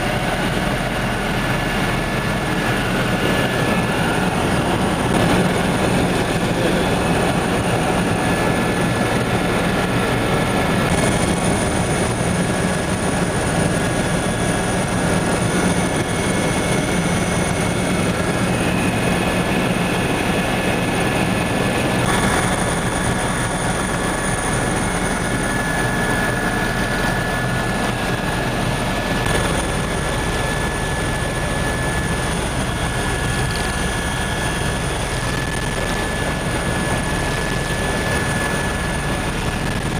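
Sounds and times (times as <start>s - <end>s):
helicopter engine and rotors: 0.0s - 39.9s
steady whining tones: 0.0s - 39.9s.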